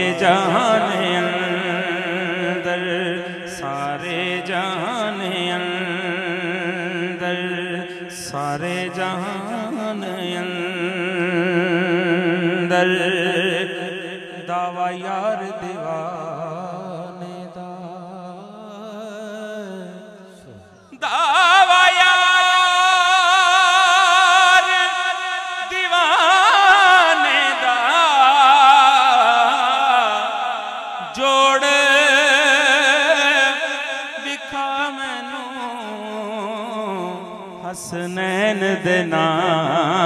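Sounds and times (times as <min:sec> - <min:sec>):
man singing into a microphone: 0:00.0 - 0:40.0.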